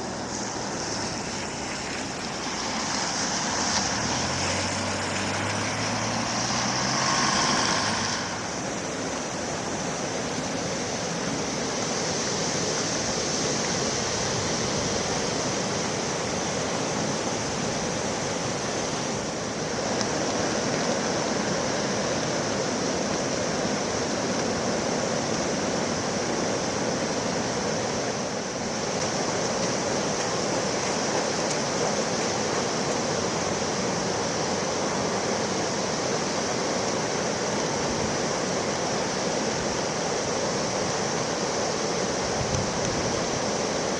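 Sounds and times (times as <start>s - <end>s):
floodwater rushing: 0.0s - 43.9s.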